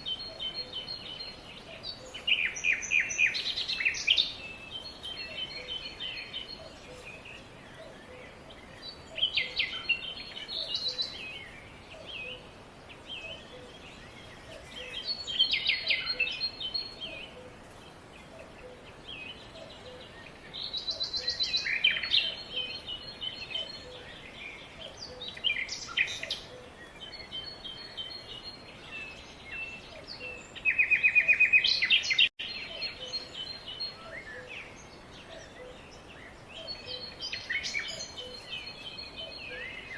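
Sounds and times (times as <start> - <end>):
outdoor ambient hiss: 0.0 - 39.9
songbirds trilling and chirping: 0.0 - 39.9.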